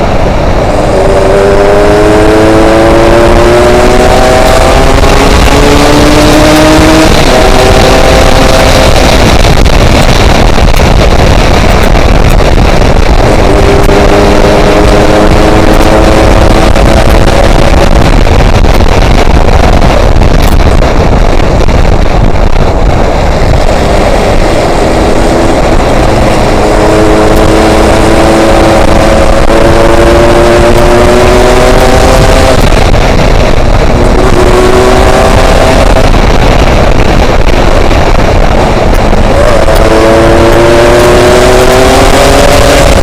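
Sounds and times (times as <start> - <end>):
motorcycle engine: 0.0 - 43.0
wind rushing over microphone: 0.0 - 43.0.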